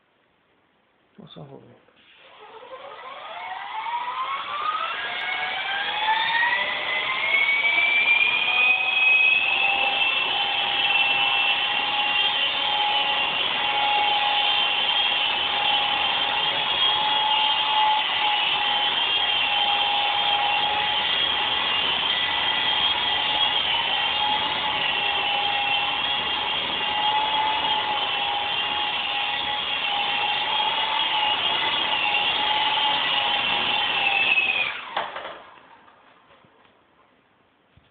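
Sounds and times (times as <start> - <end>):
rc helicopter rotor whine: 2.2 - 35.6.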